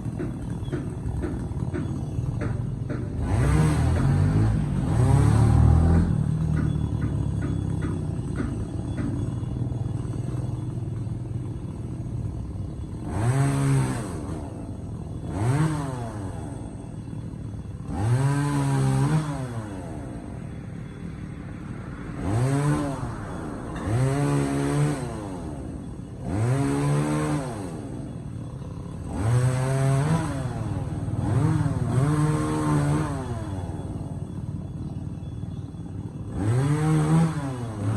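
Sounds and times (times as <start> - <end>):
chainsaw idling and revving: 0.0 - 37.9.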